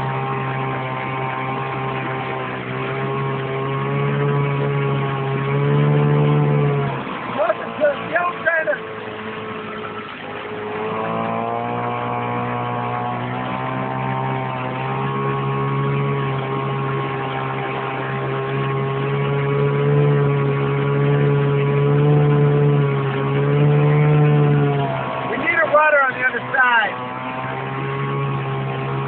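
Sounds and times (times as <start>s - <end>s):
small boat motor running: 0.0s - 29.0s.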